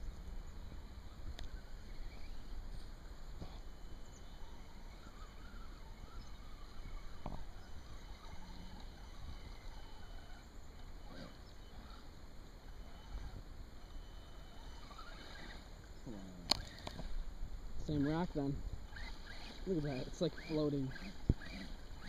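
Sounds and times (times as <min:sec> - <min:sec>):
electric motor whining: 0:00.7 - 0:22.0.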